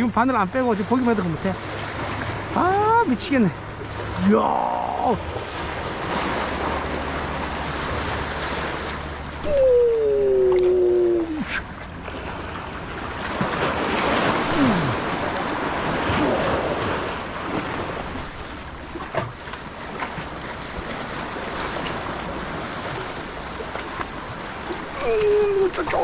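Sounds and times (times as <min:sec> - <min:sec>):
sea waves washing against rocks: 0:00.0 - 0:26.0.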